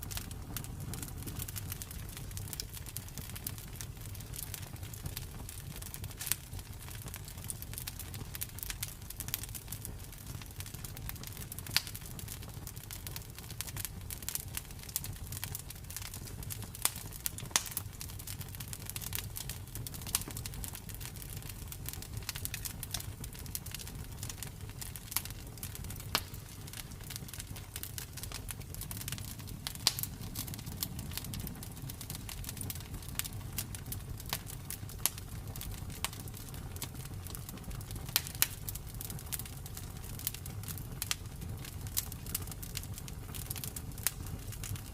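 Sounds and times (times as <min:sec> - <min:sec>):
burning wood rumble: 0:00.0 - 0:44.9
campfire popping and snapping: 0:00.0 - 0:44.9.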